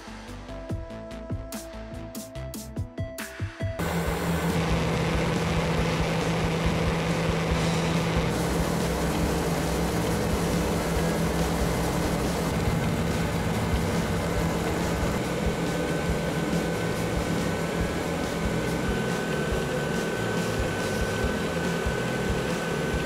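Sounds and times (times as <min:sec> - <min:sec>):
rubber tyres spinning on belt: 0:03.8 - 0:23.0
thin high whine: 0:03.8 - 0:23.0
treadmill running: 0:03.8 - 0:23.0.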